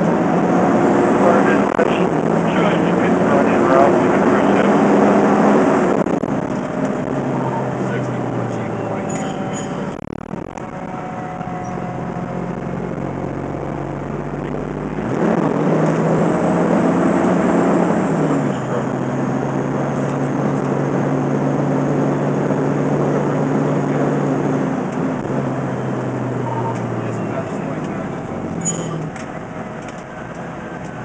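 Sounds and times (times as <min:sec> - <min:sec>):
truck diesel engine accelerating: 0:00.0 - 0:31.0.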